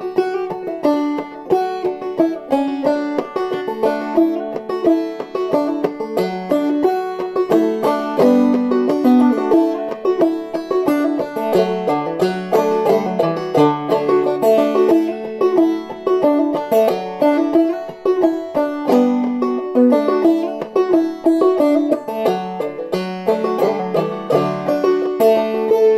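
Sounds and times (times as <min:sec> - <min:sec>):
banjo played clawhammer style: 0:00.0 - 0:25.9.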